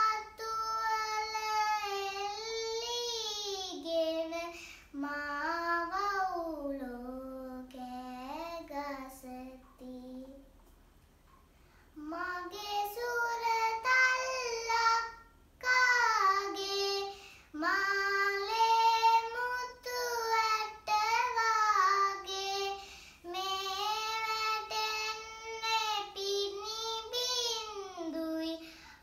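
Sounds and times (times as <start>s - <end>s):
girl singing unaccompanied: 0.0s - 10.6s, 12.0s - 29.0s.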